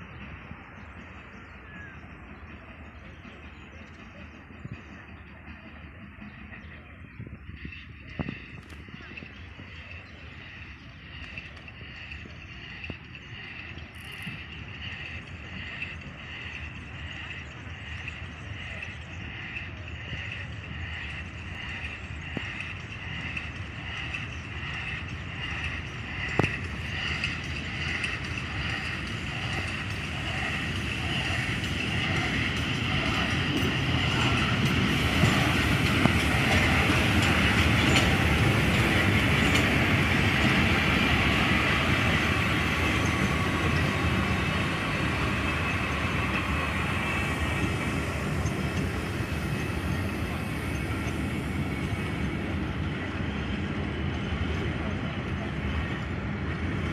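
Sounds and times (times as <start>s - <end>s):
steam locomotive passing: 0.0s - 56.9s.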